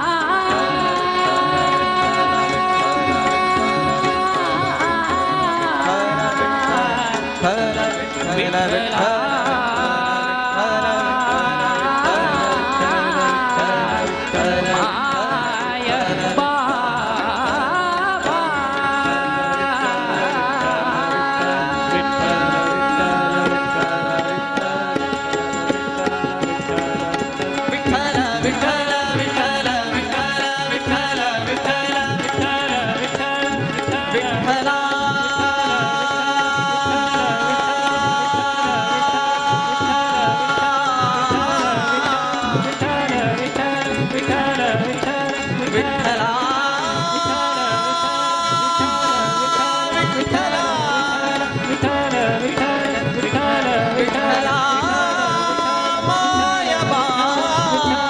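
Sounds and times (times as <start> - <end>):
harmonium: 0.0 - 58.0
men singing devotional song: 0.0 - 58.0
tabla beating steadily: 0.0 - 58.0.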